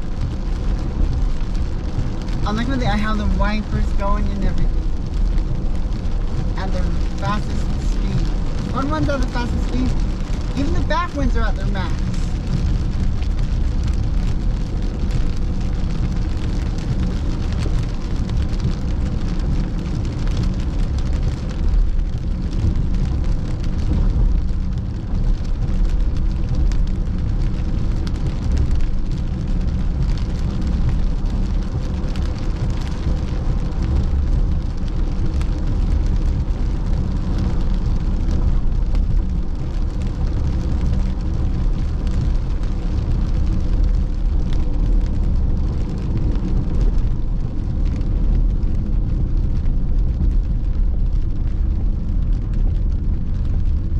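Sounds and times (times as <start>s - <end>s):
heavy rain on car roof: 0.0s - 53.9s
road and engine rumble: 0.0s - 53.9s.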